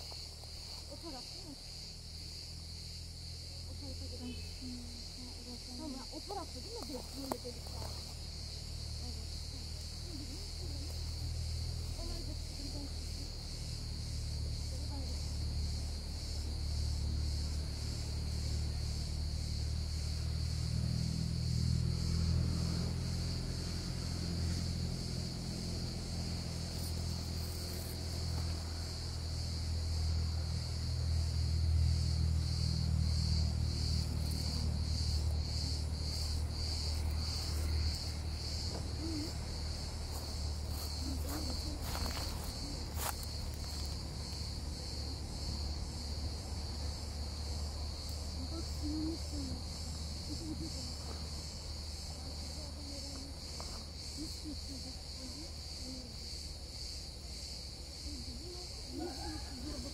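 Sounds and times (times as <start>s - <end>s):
insects singing: 0.0s - 59.9s.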